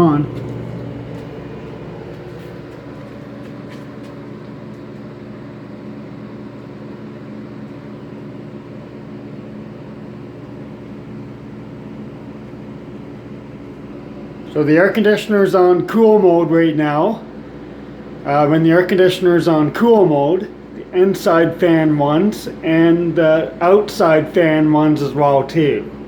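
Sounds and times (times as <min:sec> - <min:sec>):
air conditioner humming: 0:00.0 - 0:26.0.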